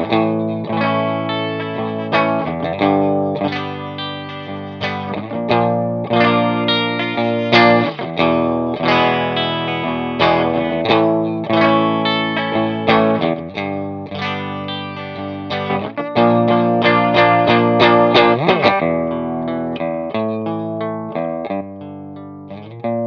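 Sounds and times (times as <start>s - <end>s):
distorted electric guitar chords: 0.0s - 23.0s.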